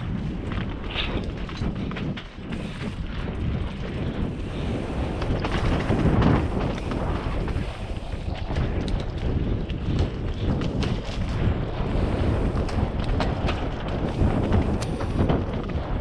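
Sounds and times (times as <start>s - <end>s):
mountain bike clatter and rattle: 0.0s - 16.0s
wind buffeting microphone: 0.0s - 16.0s.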